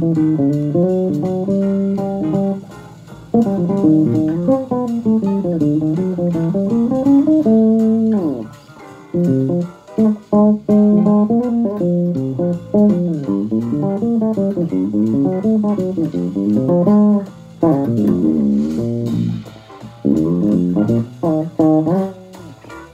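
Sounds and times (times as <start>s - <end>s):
electric bass guitar plucked notes: 0.0s - 22.9s.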